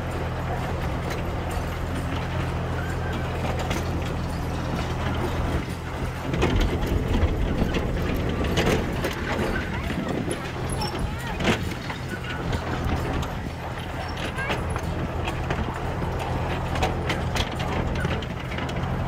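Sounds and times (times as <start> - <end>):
carriages and wheels rattling: 0.0 - 19.0
miniature train running on track: 0.0 - 19.0.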